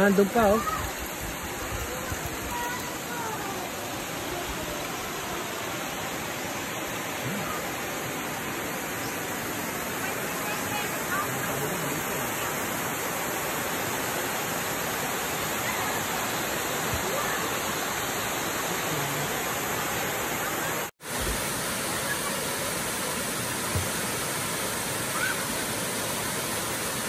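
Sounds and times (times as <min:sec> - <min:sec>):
waterfalls rushing into pool: 0:00.0 - 0:27.0.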